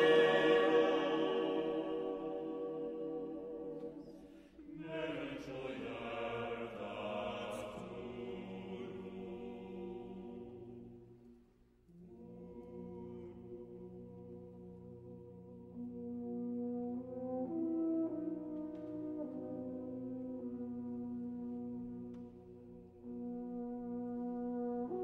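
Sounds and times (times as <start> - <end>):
choir singing sustained chords: 0.0 - 11.3, 11.9 - 25.0.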